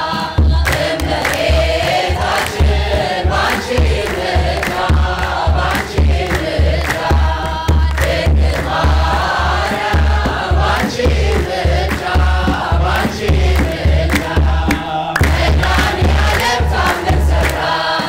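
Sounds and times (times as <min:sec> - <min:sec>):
choir singing a hymn: 0:00.0 - 0:18.0
drum beating steady rhythm: 0:00.0 - 0:18.0
hand clapping: 0:00.0 - 0:18.0.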